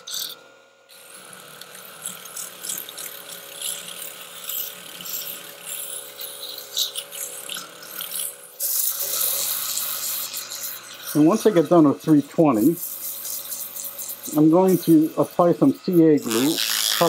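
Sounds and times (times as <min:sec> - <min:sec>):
lathe motor whining: 0:00.0 - 0:17.0.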